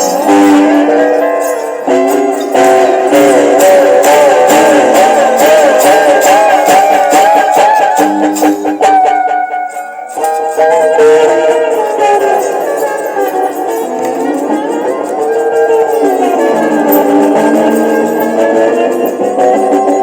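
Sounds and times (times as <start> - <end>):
guitar tremolo picking with slides: 0.0 - 20.0.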